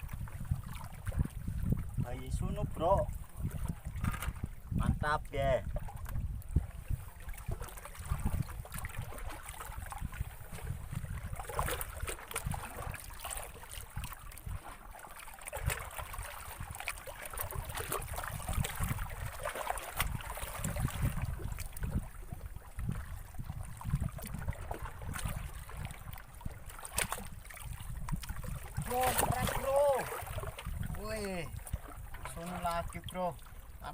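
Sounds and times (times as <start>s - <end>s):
water lapping and splashing: 0.0s - 33.9s
wind rumble on microphone: 0.0s - 33.9s.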